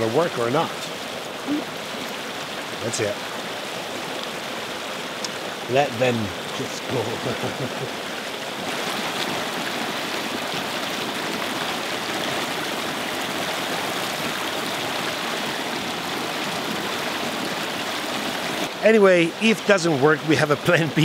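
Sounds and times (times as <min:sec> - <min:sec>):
water rushing into stone basin: 0:00.0 - 0:21.0.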